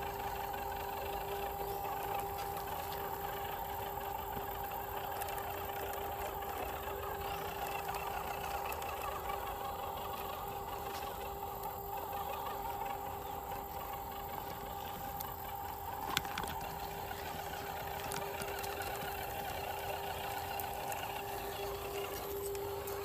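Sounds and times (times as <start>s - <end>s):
small electric motor whining: 0.0s - 23.0s.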